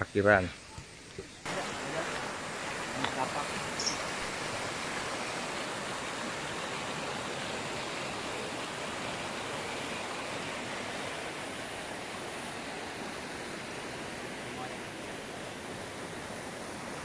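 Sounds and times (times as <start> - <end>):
stream flowing over rocks: 0.6 - 17.0.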